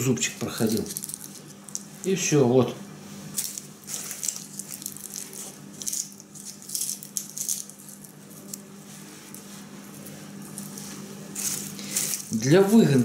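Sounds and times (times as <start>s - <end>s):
garlic cloves rustling against plastic: 0.0s - 2.2s, 3.2s - 13.0s.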